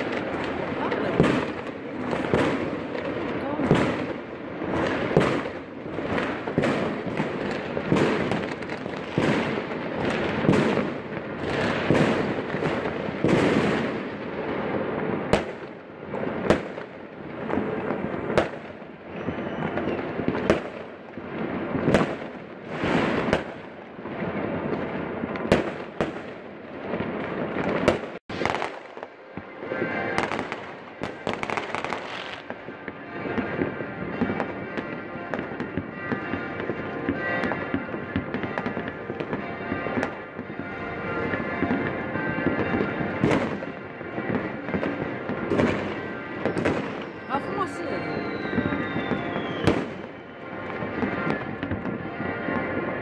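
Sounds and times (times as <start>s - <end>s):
fireworks bangs: 0.0s - 53.0s
fireworks crackling: 0.0s - 53.0s.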